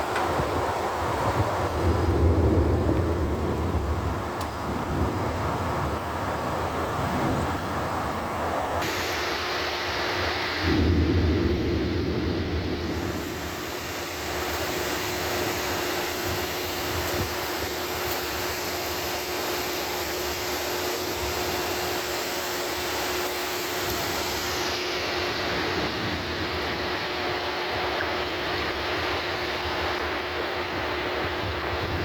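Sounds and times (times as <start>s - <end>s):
storm wind and rain roar: 0.0s - 32.0s.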